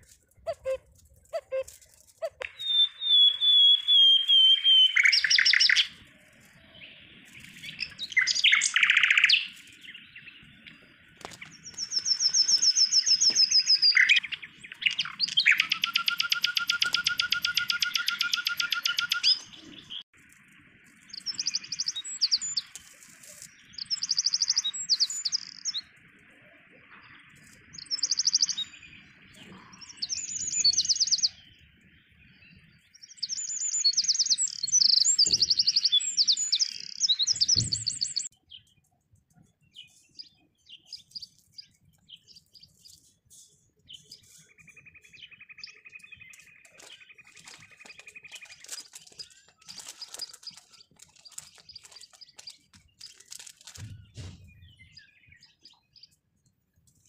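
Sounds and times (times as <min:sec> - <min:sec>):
songbirds trilling: 0:00.0 - 0:56.3.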